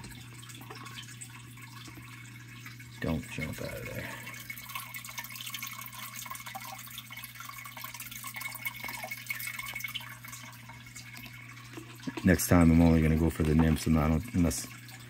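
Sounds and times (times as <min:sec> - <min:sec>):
water drips and trickles: 0:00.0 - 0:15.0.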